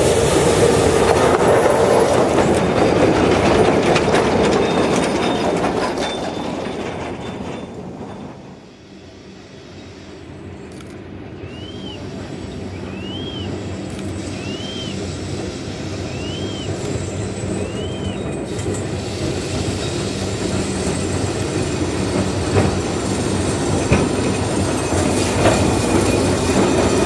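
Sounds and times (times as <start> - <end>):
electric locomotive approaching: 0.0 - 27.0.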